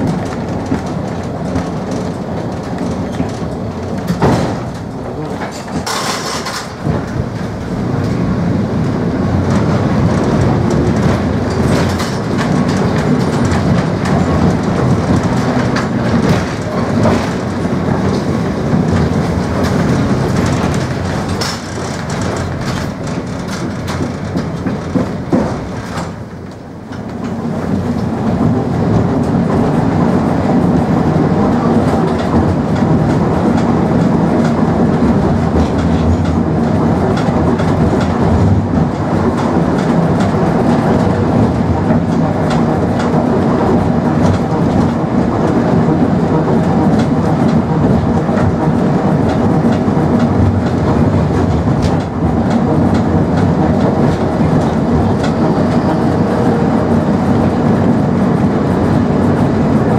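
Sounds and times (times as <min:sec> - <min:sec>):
tram running along track: 0:00.0 - 0:59.9
wheels clattering over rails: 0:00.0 - 0:59.9.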